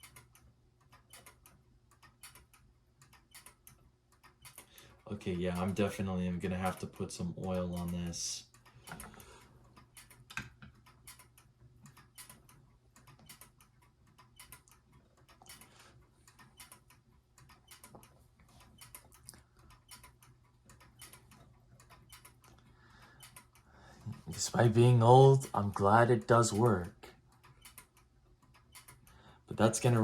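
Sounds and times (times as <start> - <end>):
desk toy clicking and ticking: 0.0 - 30.0.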